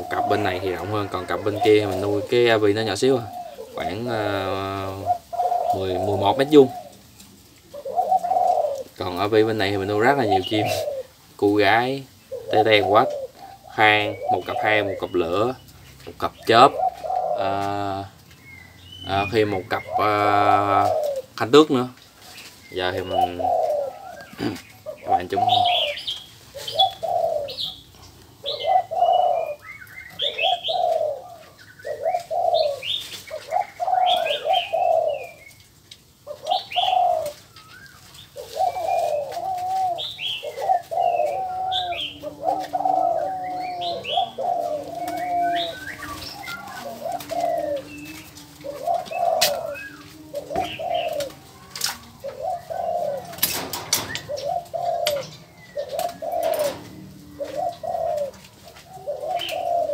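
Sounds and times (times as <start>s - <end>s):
doves cooing: 0.0s - 59.9s
small birds chirping: 0.0s - 59.9s.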